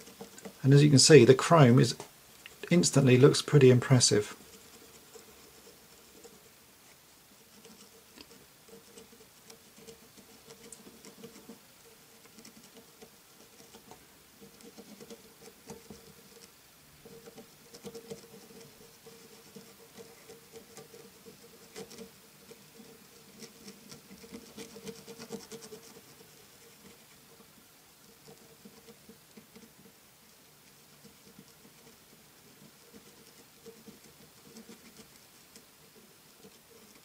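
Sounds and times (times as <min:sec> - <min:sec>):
marker nib scratching plastic: 0:00.0 - 0:37.0.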